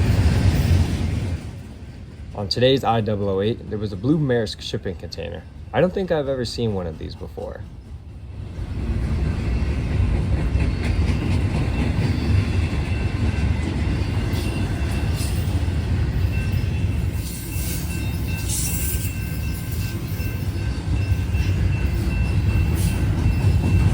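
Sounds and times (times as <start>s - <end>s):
train cars rumbling on rails: 0.0s - 23.9s.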